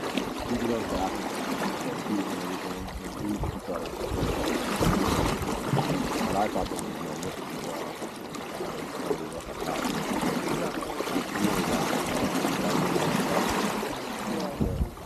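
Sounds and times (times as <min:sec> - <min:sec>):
boat bump: 0:00.0 - 0:15.0
water rushing along boat hull: 0:00.0 - 0:15.0.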